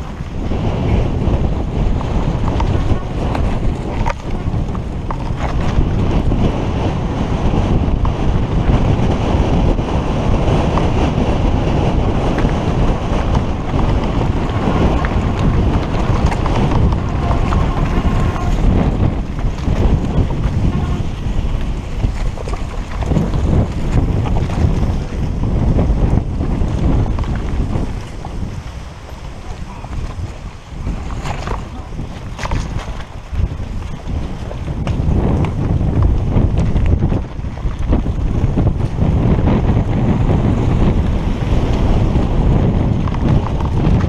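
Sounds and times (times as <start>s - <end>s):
bike knocks and rattles: 0.0s - 6.8s, 7.4s - 44.0s
bike tyres on dirt and rock: 0.0s - 44.0s
wind buffeting microphone: 0.0s - 44.0s.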